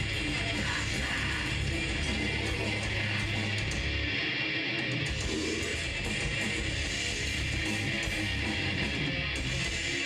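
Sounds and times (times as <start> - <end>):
death metal band playing: 0.0 - 10.0.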